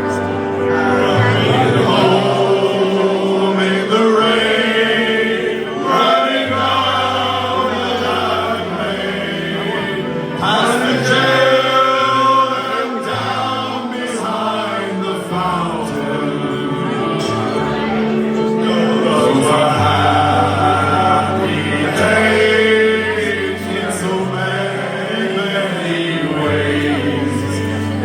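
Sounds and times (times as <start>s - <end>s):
instrumental accompaniment: 0.0s - 28.0s
men singing a slow ballad: 0.0s - 28.0s.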